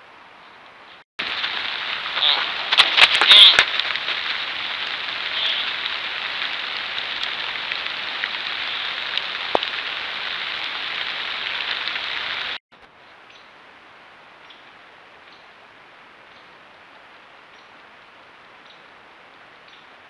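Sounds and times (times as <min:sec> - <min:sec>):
steady hiss like light rain: 0:00.0 - 0:20.0.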